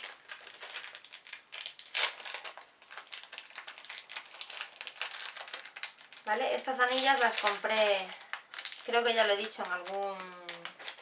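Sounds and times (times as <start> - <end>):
packet crinkling: 0.0 - 11.0.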